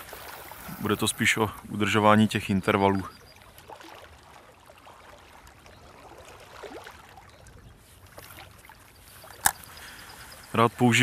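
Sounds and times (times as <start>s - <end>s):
small waves lapping against bank: 0.0s - 11.0s.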